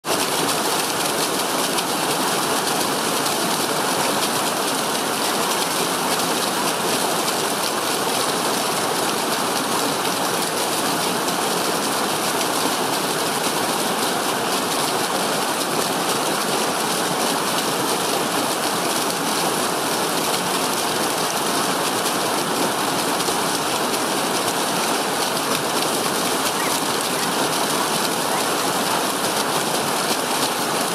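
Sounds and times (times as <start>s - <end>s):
stream cascading over rocks: 0.0s - 30.9s.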